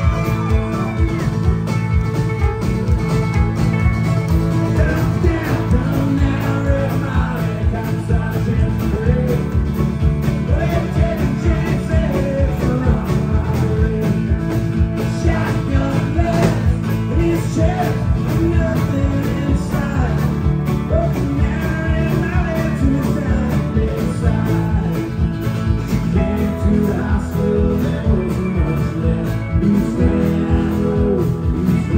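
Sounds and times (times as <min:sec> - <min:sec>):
mandolin: 0:00.0 - 0:31.9
steady drum beat: 0:00.0 - 0:31.9
strummed acoustic guitar: 0:00.0 - 0:31.9.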